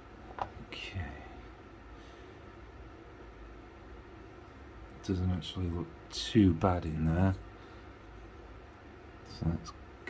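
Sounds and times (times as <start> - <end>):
faint hiss: 0.6 - 10.0.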